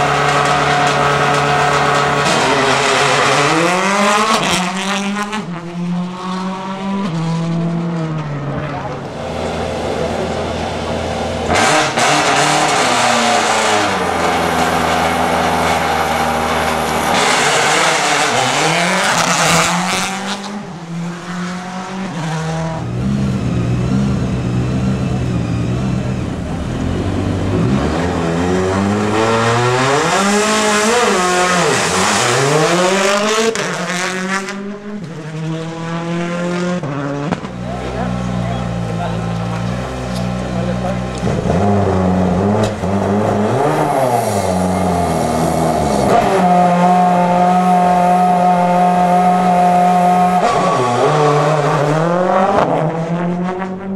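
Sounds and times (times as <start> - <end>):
car accelerating away: 0.0 - 53.9
rally car engines idling and revving: 0.0 - 53.9.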